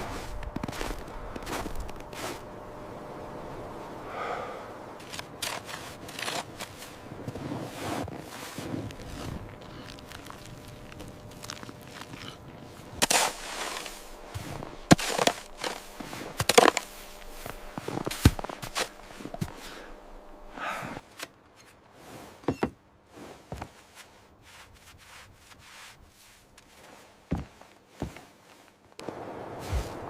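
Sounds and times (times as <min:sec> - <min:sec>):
crunching footsteps: 0:00.0 - 0:02.9, 0:05.0 - 0:21.7, 0:23.2 - 0:30.0.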